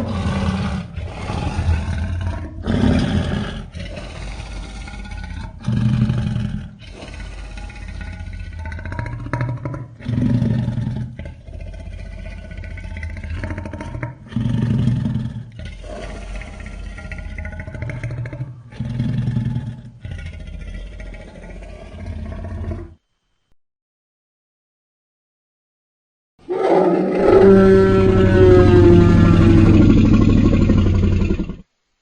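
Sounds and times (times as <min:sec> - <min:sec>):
dinosaur roar: 0:00.0 - 0:23.0, 0:26.4 - 0:31.6.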